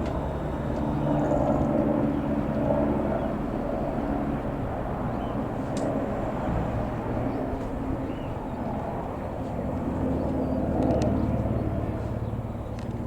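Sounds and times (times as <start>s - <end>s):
helicopter running: 0.0s - 13.0s.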